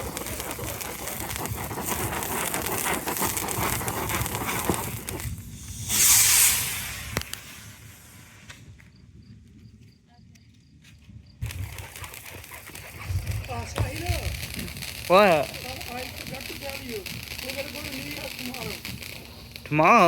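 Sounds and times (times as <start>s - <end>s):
firework crackling and hissing: 0.0s - 9.6s, 11.4s - 20.0s.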